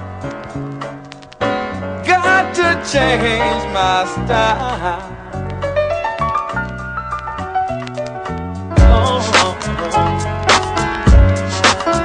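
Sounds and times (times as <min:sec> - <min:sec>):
instrumental backing track: 0:00.0 - 0:12.0.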